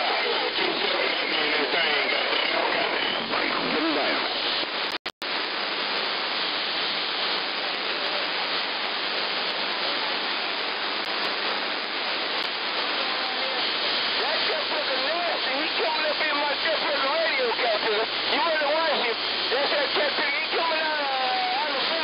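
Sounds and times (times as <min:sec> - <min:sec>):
faint garbled radio voices: 0:00.0 - 0:06.2, 0:06.8 - 0:22.0
radio static hiss: 0:00.0 - 0:22.0.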